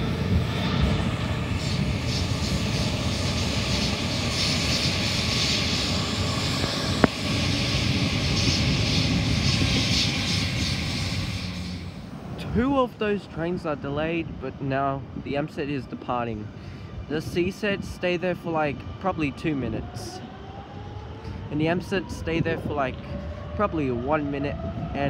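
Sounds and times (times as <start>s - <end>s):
electric train rumble and hiss: 0.0s - 25.0s.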